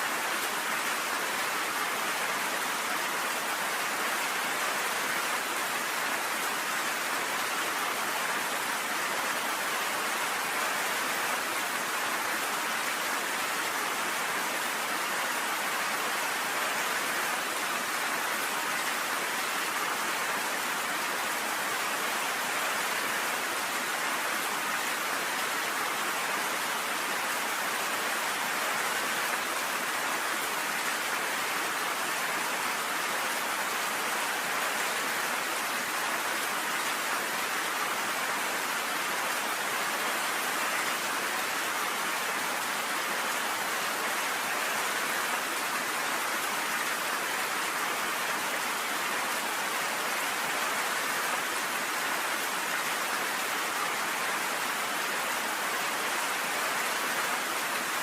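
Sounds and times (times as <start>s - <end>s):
rain falling on a porch: 0.0s - 58.0s.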